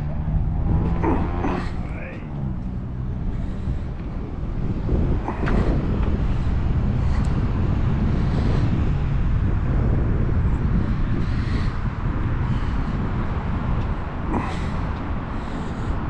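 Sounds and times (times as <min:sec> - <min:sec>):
traffic noise: 0:00.0 - 0:16.0
wind buffeting microphone: 0:00.0 - 0:16.0.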